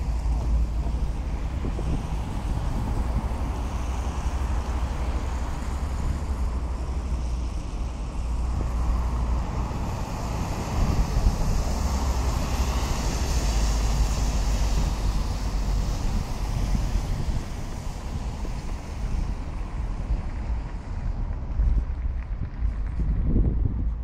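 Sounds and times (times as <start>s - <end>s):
heavy lorry driving past: 0.0s - 23.9s
road traffic: 0.0s - 24.0s
wind rumble on microphone: 0.0s - 24.0s.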